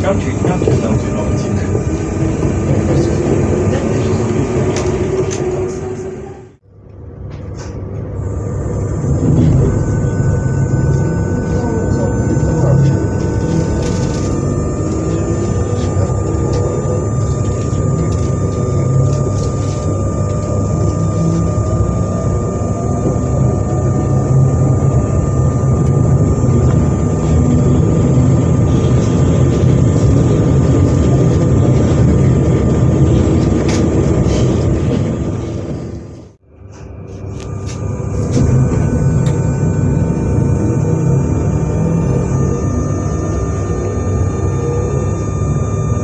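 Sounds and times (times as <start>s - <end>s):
high electrical whine: 0.0s - 46.0s
train equipment low hum: 0.0s - 46.0s.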